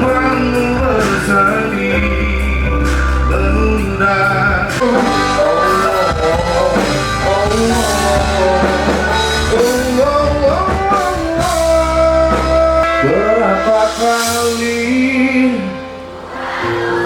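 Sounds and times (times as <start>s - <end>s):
live band playing pop song: 0.0s - 17.0s.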